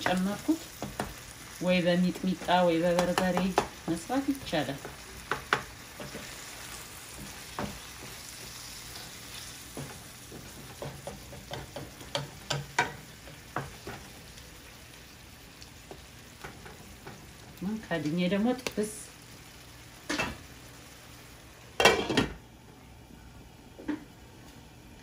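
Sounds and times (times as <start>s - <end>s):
food sizzling in frying pan: 0.0s - 22.6s.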